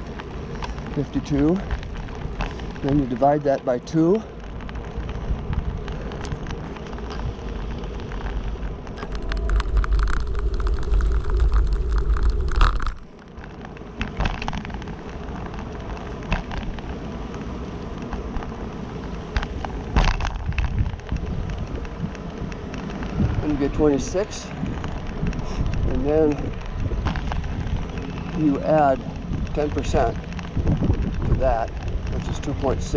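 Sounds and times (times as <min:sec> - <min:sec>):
clicks and rattles: 0:00.0 - 0:32.9
wind buffeting microphone: 0:00.0 - 0:32.9.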